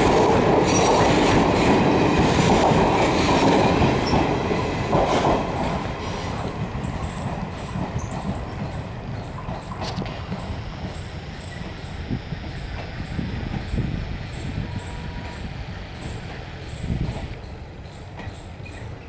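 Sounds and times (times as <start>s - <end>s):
train wheels clattering on rails: 0.0s - 19.0s.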